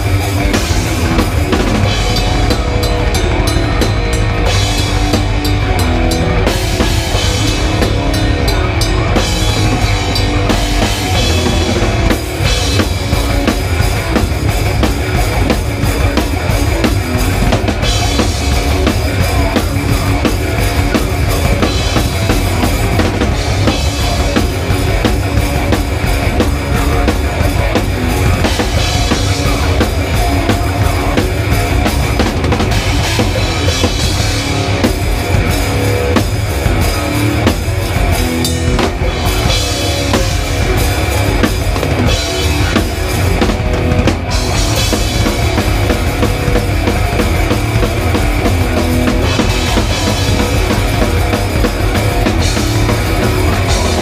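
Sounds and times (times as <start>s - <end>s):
bass drum and snare: 0.0s - 54.0s
rock band playing: 0.0s - 54.0s.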